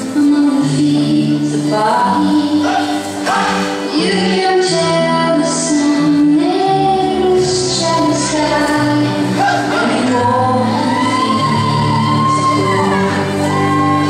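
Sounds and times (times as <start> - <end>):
woman singing: 0.0 - 3.0, 3.8 - 14.0
latin dance music: 0.0 - 14.0.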